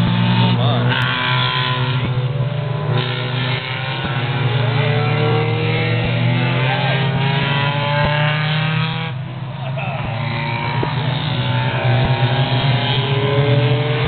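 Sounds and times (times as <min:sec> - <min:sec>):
racing car engines running hard: 0:00.0 - 0:14.0.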